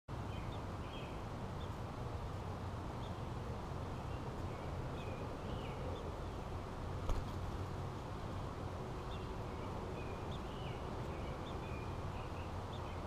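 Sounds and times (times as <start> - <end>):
low outdoor rumble: 0.1 - 13.0.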